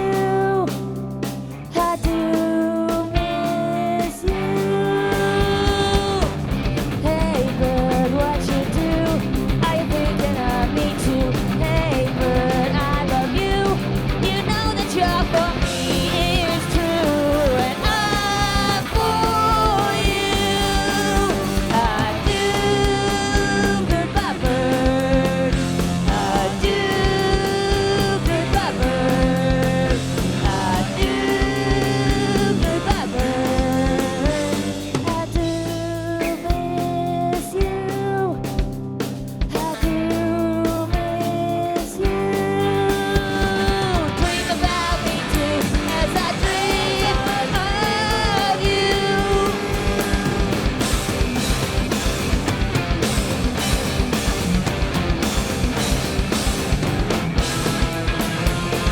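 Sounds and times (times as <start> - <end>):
person singing: 0.0 - 1.0, 1.6 - 38.7, 39.5 - 53.6
punk rock band playing live: 0.0 - 58.9.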